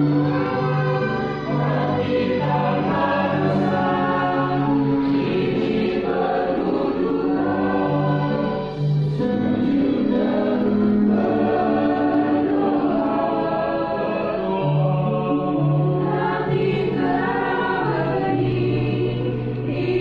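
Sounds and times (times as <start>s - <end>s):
church choir singing a hymn: 0.0s - 20.0s.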